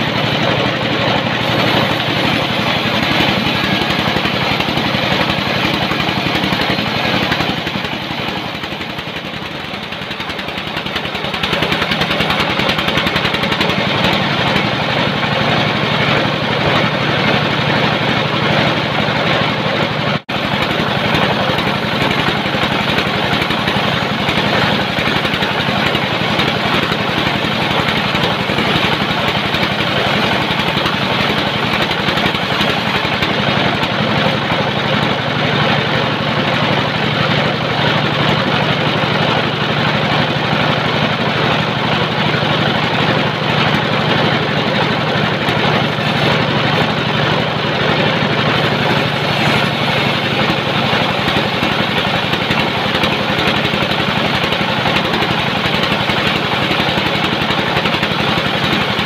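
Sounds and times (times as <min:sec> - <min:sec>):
sawmill mechanical drone: 0:00.0 - 0:59.0.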